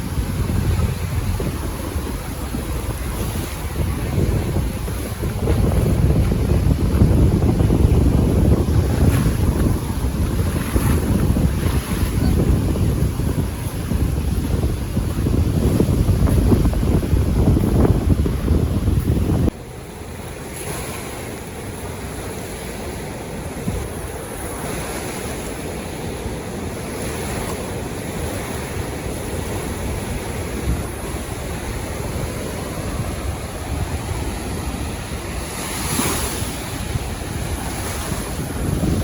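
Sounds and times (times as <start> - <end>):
surf breaking on a beach: 0.0 - 39.0
wind buffeting microphone: 0.0 - 39.0.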